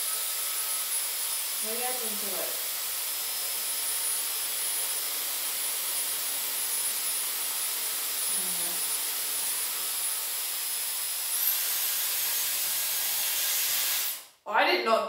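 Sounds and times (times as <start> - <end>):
hair styler air rush and whine: 0.0 - 14.3.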